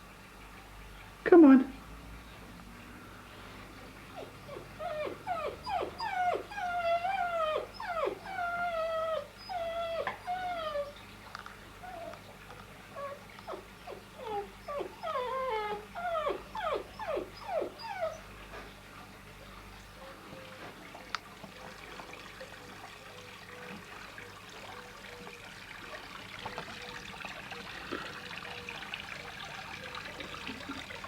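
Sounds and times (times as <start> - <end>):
puppy whining: 4.1 - 11.1, 11.8 - 18.8, 20.0 - 31.0.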